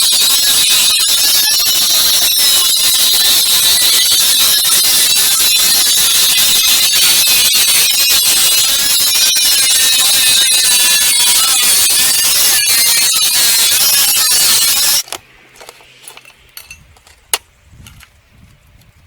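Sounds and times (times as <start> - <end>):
angle grinder on steel: 0.0 - 17.2.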